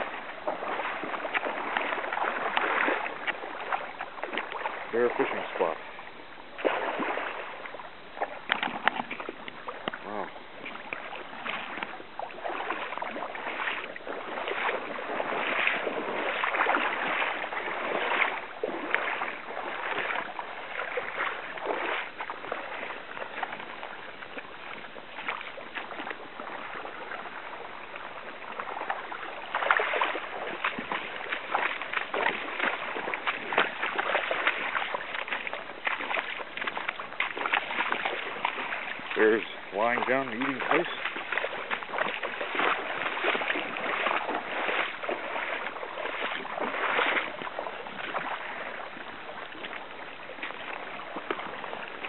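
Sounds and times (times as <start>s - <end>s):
stream rushing over gravel: 0.0s - 52.0s.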